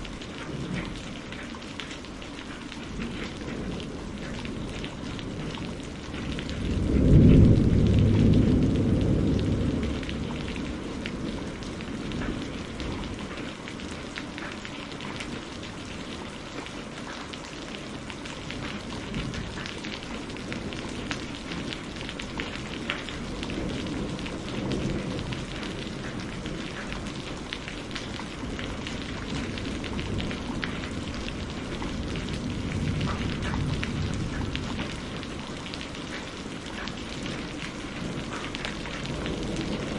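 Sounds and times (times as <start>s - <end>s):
rain falling: 0.0s - 39.9s
thunder rumbling: 2.9s - 14.1s, 17.8s - 39.9s.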